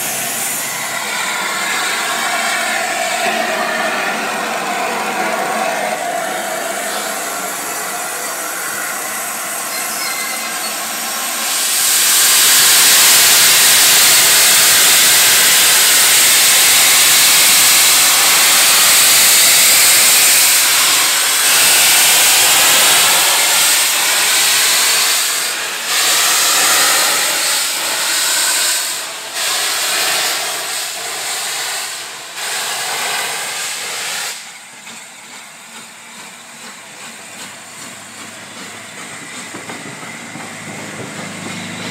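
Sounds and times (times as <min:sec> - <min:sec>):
steam locomotive venting steam: 0:00.0 - 0:41.9.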